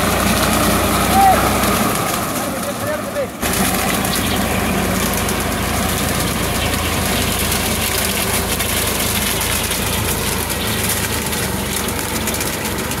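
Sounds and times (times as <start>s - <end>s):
cane stalks crackling and rattling: 0.0s - 13.0s
tractor engine running: 0.0s - 13.0s.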